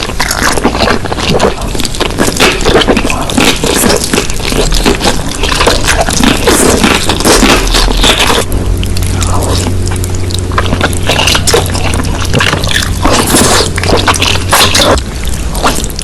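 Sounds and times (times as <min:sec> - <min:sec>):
food chewing and crunching: 0:00.0 - 0:16.0
wet squishy mouth noises: 0:00.0 - 0:16.0.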